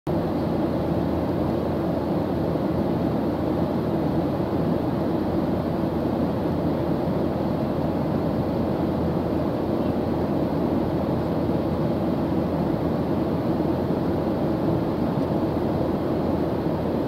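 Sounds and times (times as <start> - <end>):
jet airliner cabin drone: 0.1 - 17.0.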